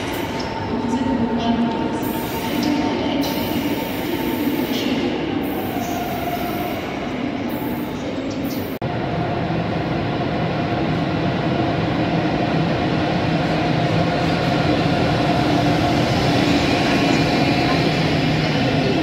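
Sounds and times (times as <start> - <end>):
electric locomotive hum: 0.0 - 19.0
train wheels rumbling on rails: 0.0 - 19.0.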